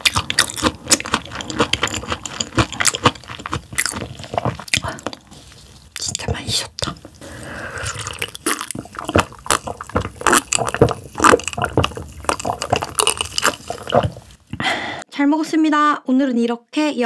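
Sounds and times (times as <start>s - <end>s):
wet chewing and smacking: 0.0s - 6.2s, 6.8s - 14.4s.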